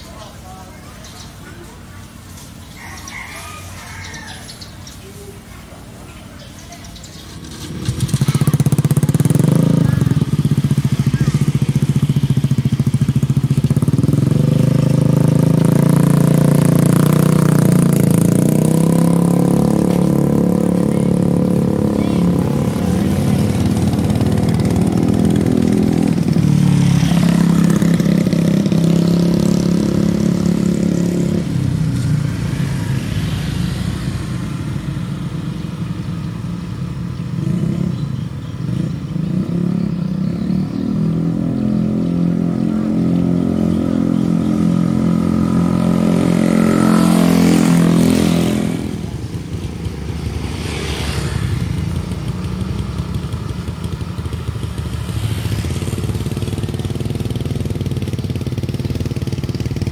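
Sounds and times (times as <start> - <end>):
motorcycle engine idling and pulling away: 0.0 - 59.9
motorcycles passing on road: 0.0 - 59.9
quieter traffic: 0.0 - 59.9.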